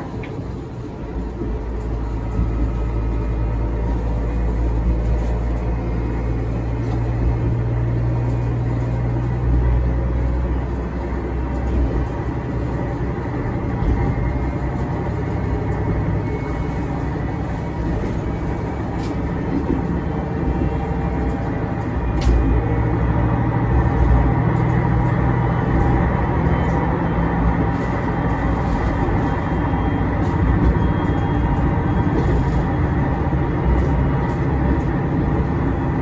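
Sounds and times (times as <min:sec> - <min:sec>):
diesel railcar engine drone: 0:00.0 - 0:36.0
train wheels on rails: 0:00.0 - 0:36.0.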